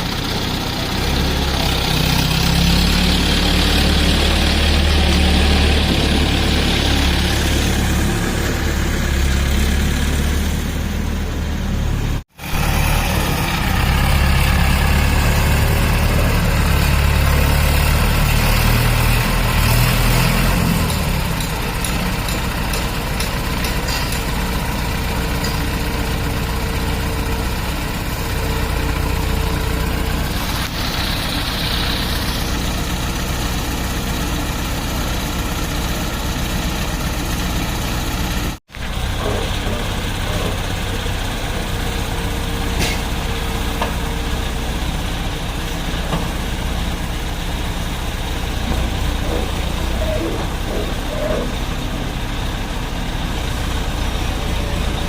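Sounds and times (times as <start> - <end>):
excavator diesel engine rumbling: 0.0 - 55.0.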